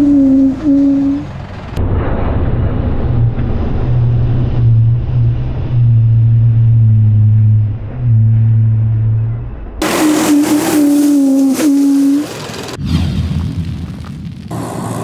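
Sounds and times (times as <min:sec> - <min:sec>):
diesel tractor engine droning: 0:00.0 - 0:12.8, 0:14.5 - 0:15.0.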